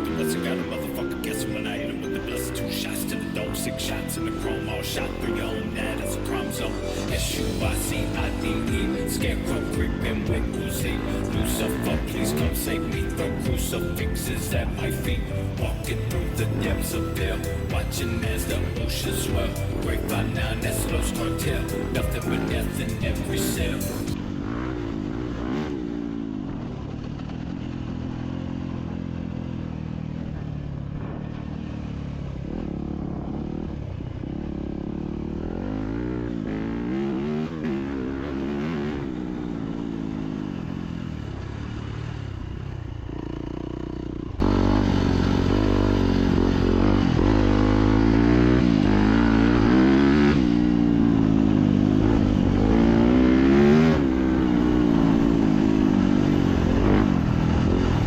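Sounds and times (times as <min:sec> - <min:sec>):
dirt bike engine revving: 0:00.0 - 0:30.2, 0:31.0 - 0:58.0.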